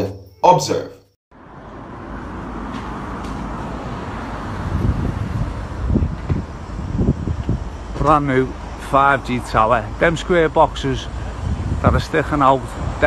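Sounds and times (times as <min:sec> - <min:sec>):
roadside traffic noise: 0:01.3 - 0:13.0.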